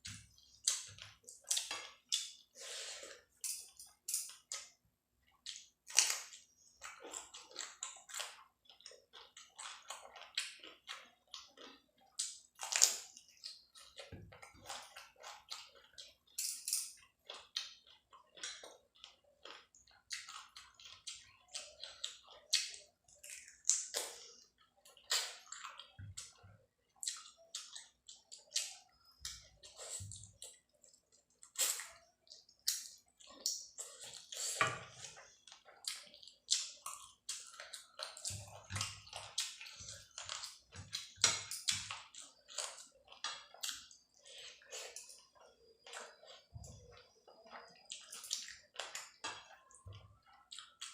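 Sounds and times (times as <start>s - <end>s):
wet chewing and smacking: 0.0s - 50.9s.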